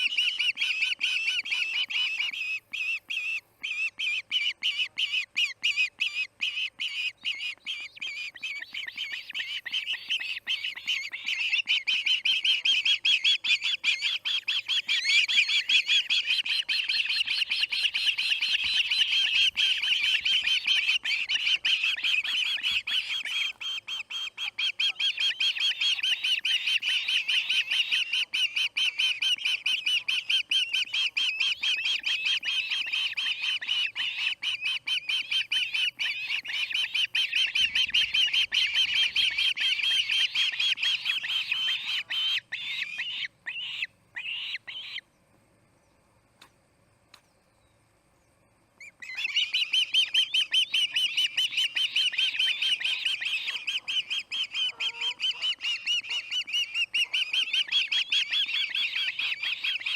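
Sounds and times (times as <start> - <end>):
osprey chirping calls: 0.0 - 45.0, 48.8 - 59.9.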